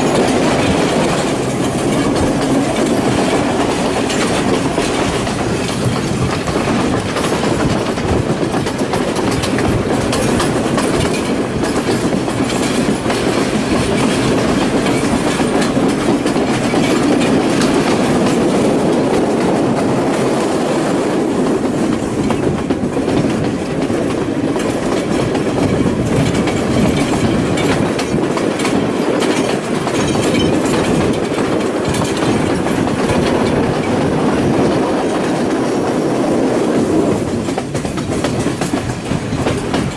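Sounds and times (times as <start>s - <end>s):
train wheels rumbling on track: 0.0s - 39.9s
wheels clicking over rail joints: 0.0s - 39.9s.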